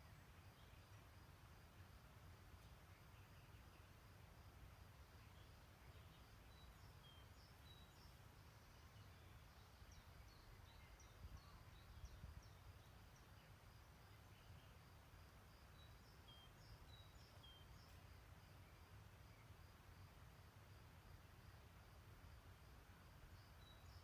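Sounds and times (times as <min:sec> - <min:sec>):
faint distant birdsong: 0:00.0 - 0:24.0.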